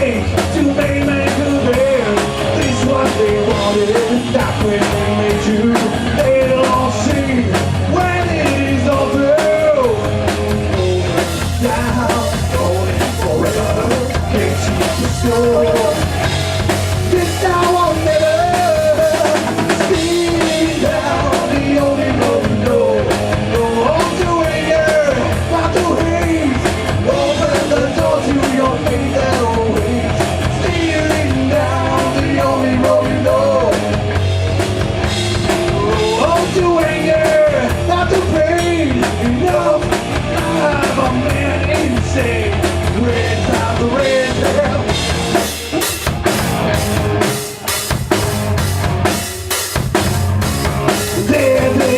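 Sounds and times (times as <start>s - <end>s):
drum kit: 0.0s - 51.9s
rock band playing live: 0.0s - 51.9s.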